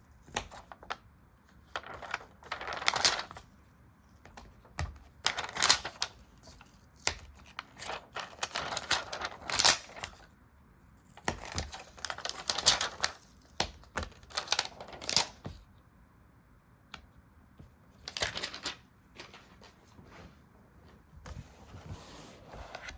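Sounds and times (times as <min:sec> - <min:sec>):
paper rustling and crinkling: 0:00.2 - 0:10.3, 0:11.0 - 0:15.6, 0:18.0 - 0:20.4, 0:21.2 - 0:22.9.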